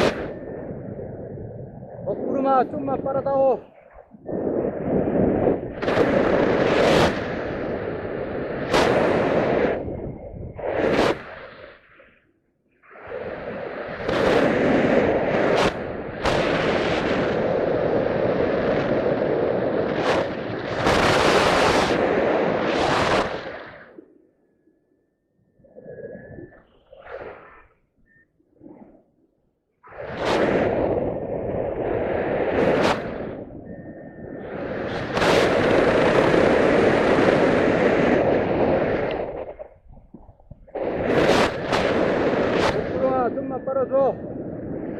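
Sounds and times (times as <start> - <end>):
wind buffeting microphone: 0.0 - 11.7, 12.9 - 23.9, 29.8 - 44.9.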